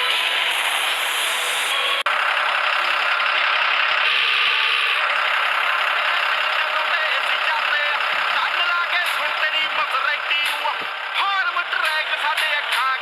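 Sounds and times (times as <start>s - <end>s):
rattling tractor diesel engine: 0.0s - 13.0s.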